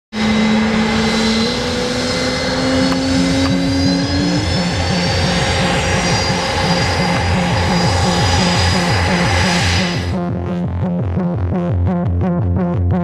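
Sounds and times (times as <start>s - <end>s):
propeller aircraft engine running: 0.1s - 11.9s.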